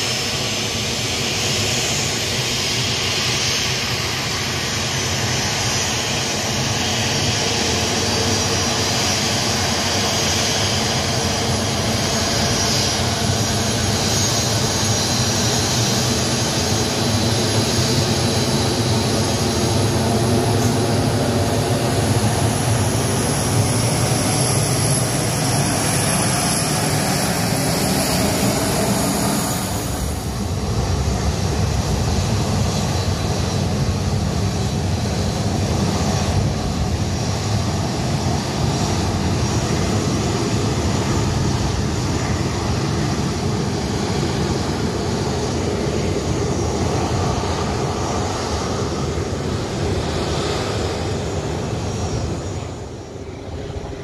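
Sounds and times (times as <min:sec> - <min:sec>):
jet engine high whine: 0:00.0 - 0:54.0
jet engines taxiing: 0:00.0 - 0:54.0.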